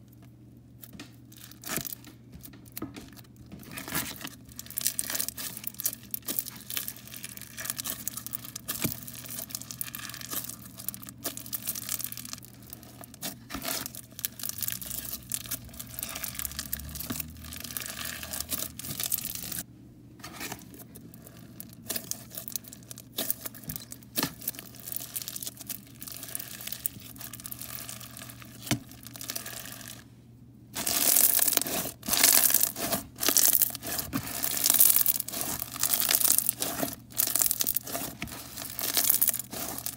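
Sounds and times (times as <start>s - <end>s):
bead slime crackling and crunching: 0.1s - 19.7s, 20.4s - 30.1s, 30.7s - 39.9s.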